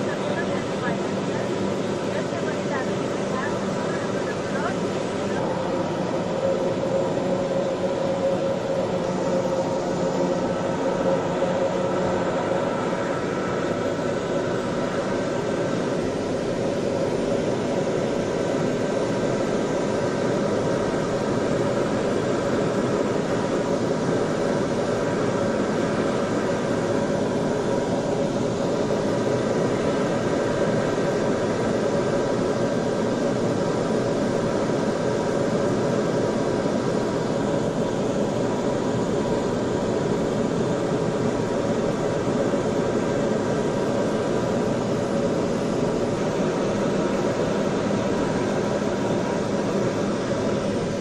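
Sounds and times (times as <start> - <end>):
turboprop engine drone: 0.0 - 51.0.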